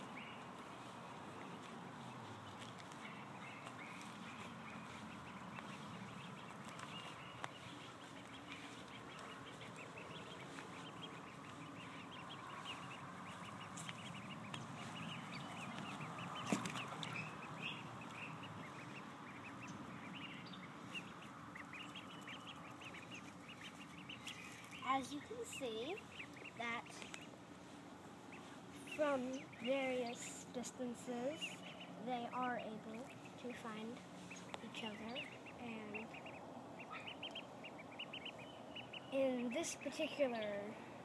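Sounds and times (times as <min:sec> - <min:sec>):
ducklings peeping: 0:00.0 - 0:41.0.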